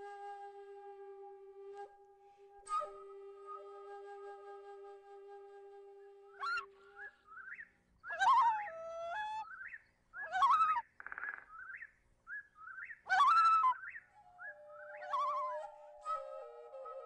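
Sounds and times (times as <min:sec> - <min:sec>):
whistled flute-like notes: 0:00.0 - 0:09.8, 0:12.6 - 0:17.0.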